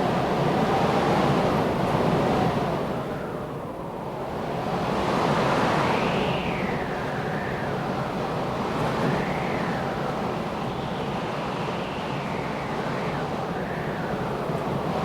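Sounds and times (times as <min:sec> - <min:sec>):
wind whistling in gusts: 0:00.0 - 0:15.0.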